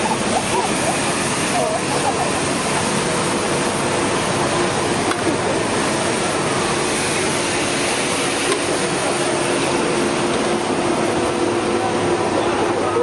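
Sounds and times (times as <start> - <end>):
busy city street din: 0.0 - 13.0.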